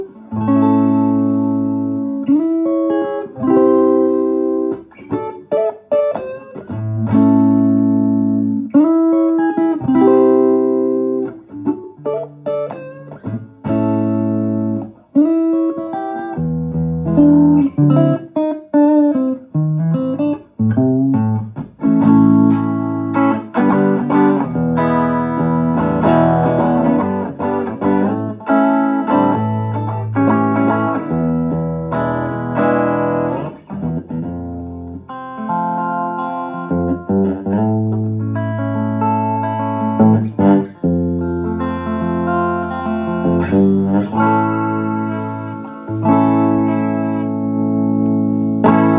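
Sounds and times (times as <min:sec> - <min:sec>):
electric guitar chords and notes: 0:00.0 - 0:48.9.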